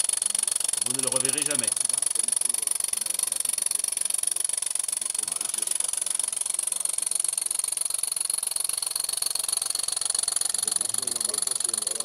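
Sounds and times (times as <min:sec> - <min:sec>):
model steam engine chuffing: 0:00.0 - 0:12.0.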